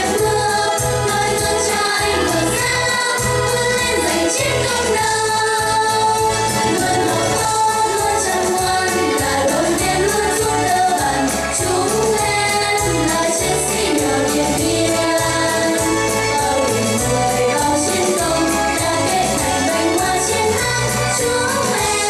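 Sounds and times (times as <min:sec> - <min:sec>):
backing music with steady beat: 0:00.0 - 0:22.0
girls singing together: 0:00.0 - 0:22.0.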